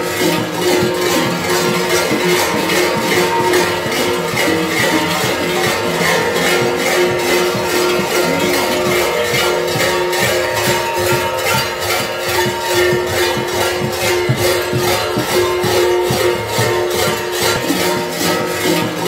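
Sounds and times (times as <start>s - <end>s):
large bells clanging: 0.0s - 19.0s.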